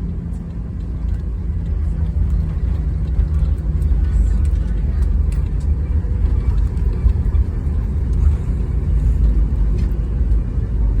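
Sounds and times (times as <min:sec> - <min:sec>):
airliner low rumble: 0:00.0 - 0:11.0.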